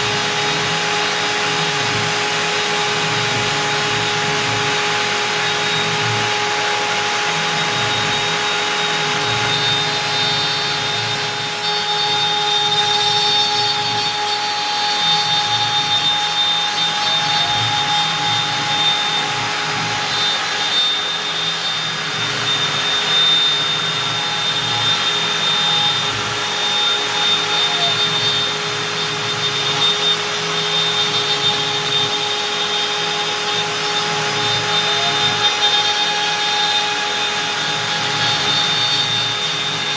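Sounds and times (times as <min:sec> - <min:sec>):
end mill cutting wood: 0:00.0 - 0:39.9
router spindle high whine: 0:00.0 - 0:39.9.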